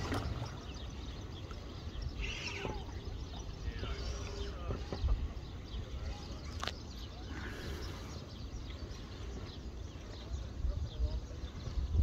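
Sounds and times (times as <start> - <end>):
small birds chirping: 0.0 - 12.0
wind rumbling on microphone: 0.0 - 12.0.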